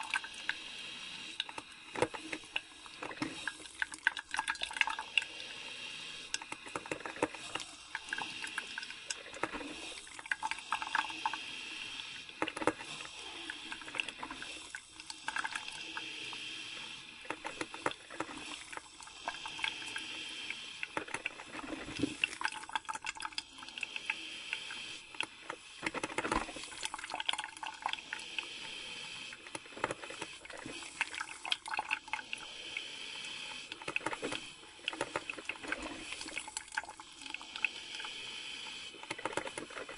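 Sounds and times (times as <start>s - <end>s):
coffee brewer hissing and popping: 0.0s - 39.9s.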